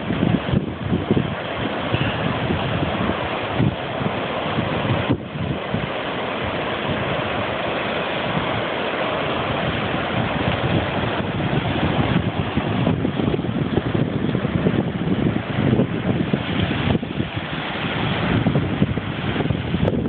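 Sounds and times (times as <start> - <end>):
sea waves breaking on shore: 0.0 - 20.0
wind buffeting microphone: 0.0 - 20.0.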